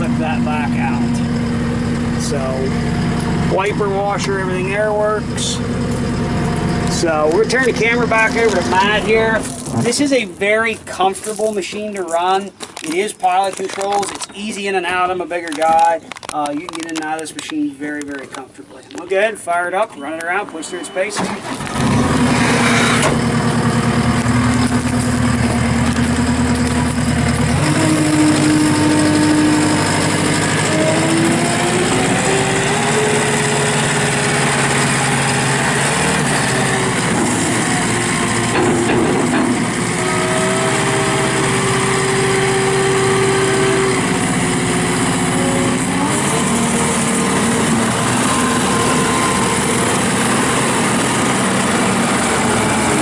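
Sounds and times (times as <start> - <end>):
diesel engine running: 0.0 - 16.9, 20.8 - 53.0.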